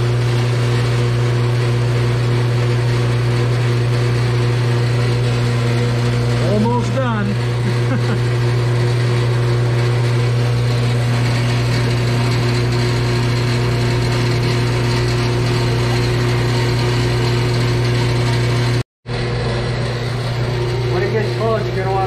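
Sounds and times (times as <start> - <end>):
bandsaw cutting steel: 0.0 - 22.0.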